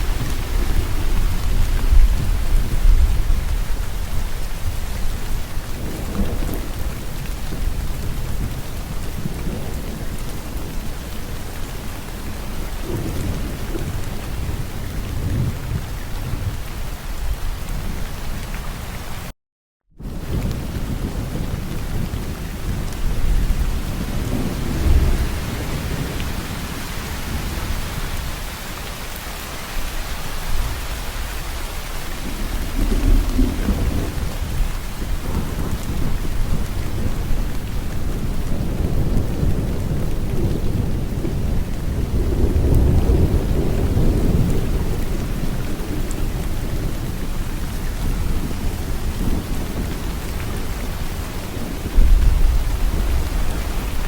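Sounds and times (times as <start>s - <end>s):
rolling thunder: 0.0s - 18.1s, 20.0s - 28.6s, 29.8s - 54.0s
rain falling: 0.0s - 19.3s, 20.0s - 54.0s.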